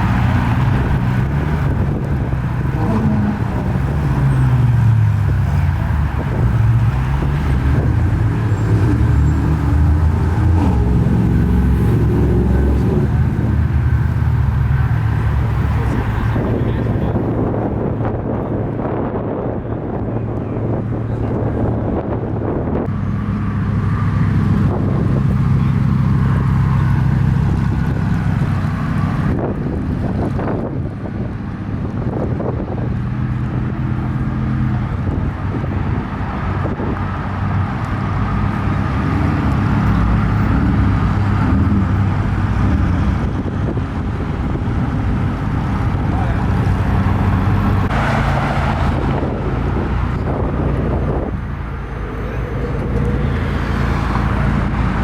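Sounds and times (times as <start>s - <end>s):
sports car engines at low speed: 0.0s - 55.0s.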